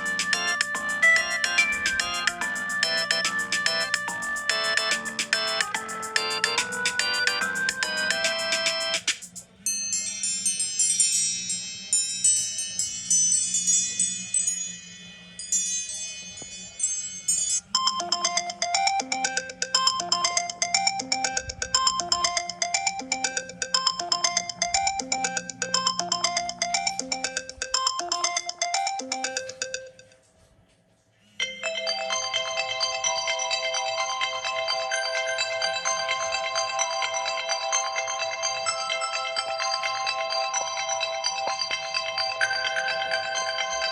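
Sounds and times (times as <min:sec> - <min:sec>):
phone ringtone chimes: 0:00.0 - 0:09.1, 0:15.6 - 0:30.1, 0:31.4 - 0:43.9
ringtone rhythmic melody: 0:00.0 - 0:30.3, 0:31.4 - 0:43.9.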